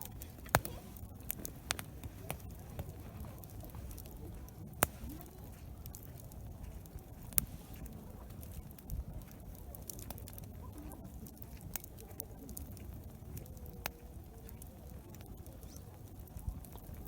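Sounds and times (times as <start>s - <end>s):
campfire crackling and popping: 0.0s - 17.0s
murmur of campsite: 0.0s - 17.0s.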